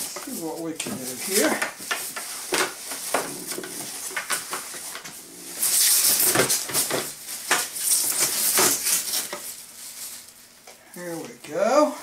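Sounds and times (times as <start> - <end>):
packaging rustling and crinkling: 0.0 - 10.5.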